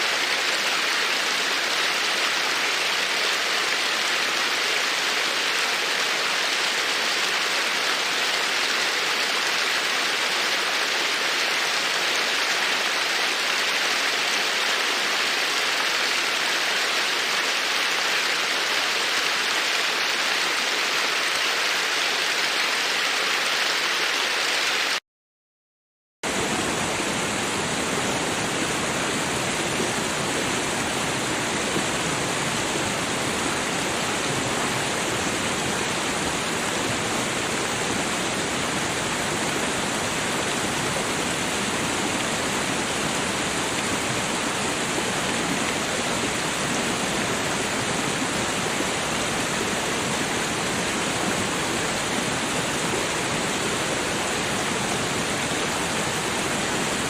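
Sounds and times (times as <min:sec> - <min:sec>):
running water rushing: 0:00.0 - 0:25.0, 0:26.3 - 0:57.0.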